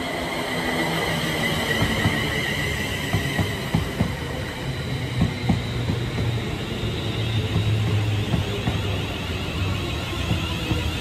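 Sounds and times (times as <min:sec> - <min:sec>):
electric train high whine: 0:00.0 - 0:11.0
train wheels knocking on track: 0:01.4 - 0:11.0.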